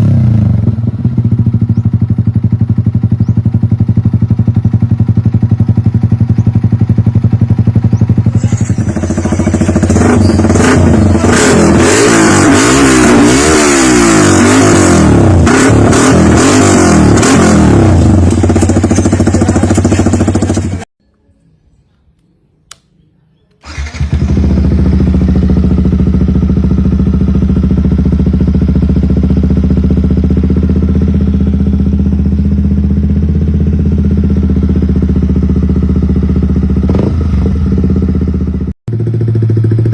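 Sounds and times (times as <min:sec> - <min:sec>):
motorcycle engine idling and revving: 0:00.0 - 0:20.9, 0:23.6 - 0:39.9.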